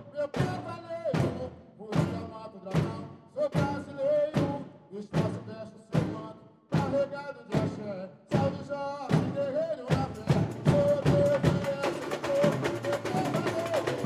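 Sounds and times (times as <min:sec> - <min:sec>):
samba drum section: 0:00.0 - 0:14.0.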